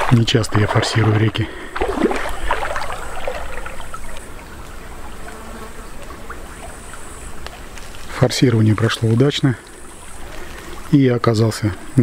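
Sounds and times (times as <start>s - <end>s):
water splashing around wading legs: 0.0s - 11.0s.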